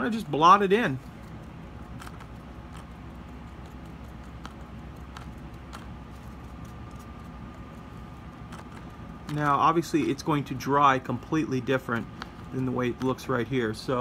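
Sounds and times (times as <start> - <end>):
low room hum: 0.0 - 14.0
paintbrush tapping and scratching: 0.4 - 13.6.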